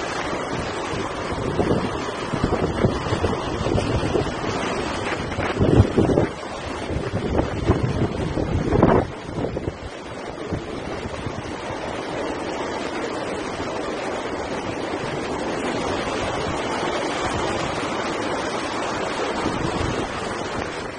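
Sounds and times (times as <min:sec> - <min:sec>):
storm wind and surf rushing: 0:00.0 - 0:20.9
wind buffeting microphone: 0:00.0 - 0:20.9.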